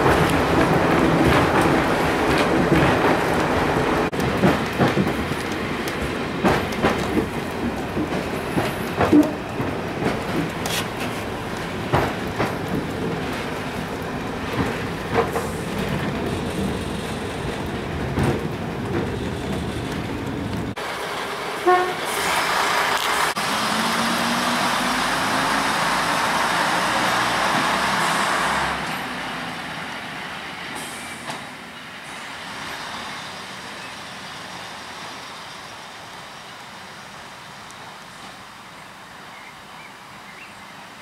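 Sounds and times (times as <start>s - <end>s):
train passing with loud rushing: 0.0s - 39.8s.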